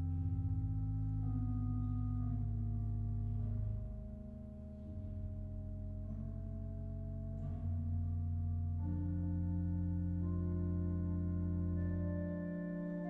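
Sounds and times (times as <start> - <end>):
pipe organ playing slow chords: 0.0 - 13.0.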